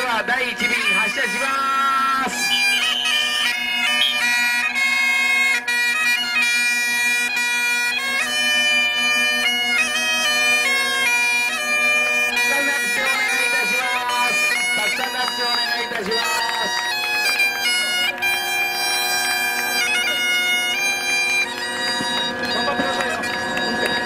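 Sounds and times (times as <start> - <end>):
bagpipe chanter melody: 0.0 - 24.0
bagpipe drone: 0.0 - 24.0.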